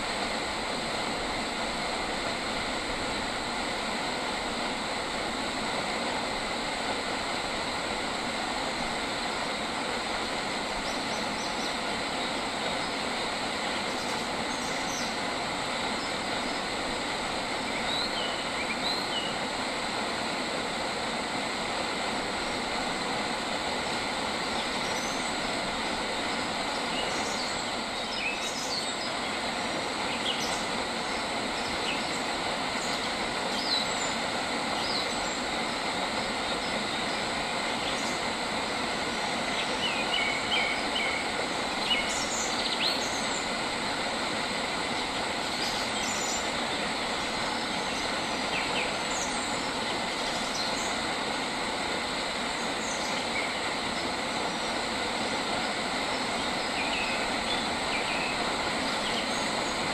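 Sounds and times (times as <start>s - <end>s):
outdoor hiss: 0.0s - 59.9s.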